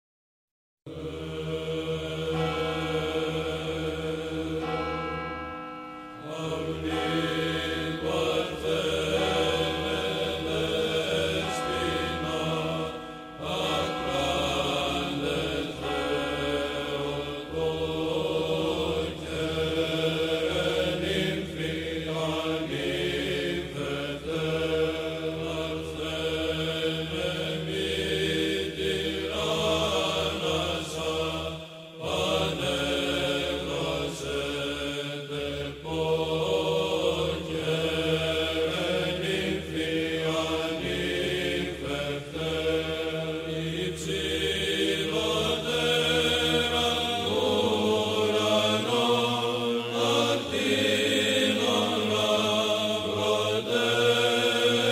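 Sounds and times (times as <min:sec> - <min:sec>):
low held drone: 0:00.9 - 0:54.9
voices chanting slow melody: 0:00.9 - 0:54.9.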